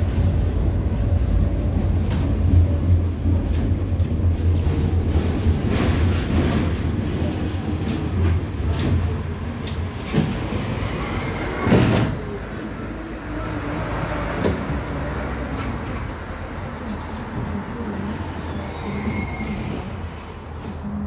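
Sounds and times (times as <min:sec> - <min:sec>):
standing tram humming: 0:00.0 - 0:21.0
tram running hum: 0:00.0 - 0:21.0.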